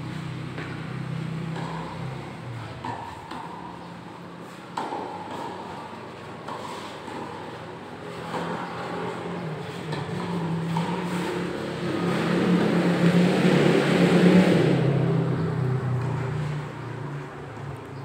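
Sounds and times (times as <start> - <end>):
vehicle engine passing: 0.0 - 18.0.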